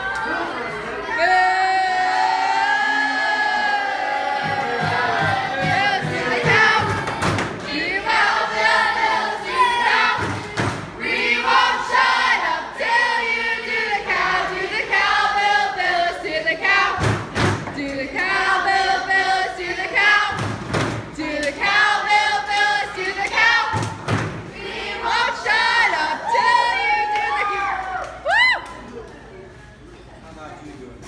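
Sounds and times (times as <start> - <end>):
crowd singing or chanting: 1.1 - 27.1.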